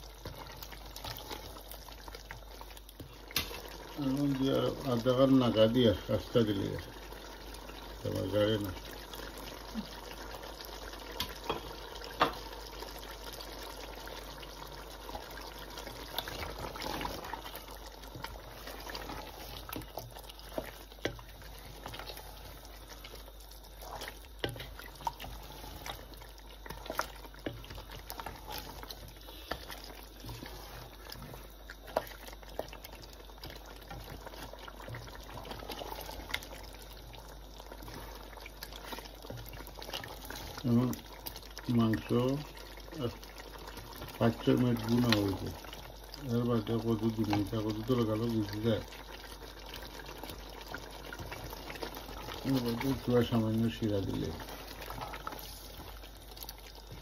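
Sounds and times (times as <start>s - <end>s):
curry bubbling in a pot: 0.0s - 57.0s
wooden spatula stirring: 0.0s - 57.0s.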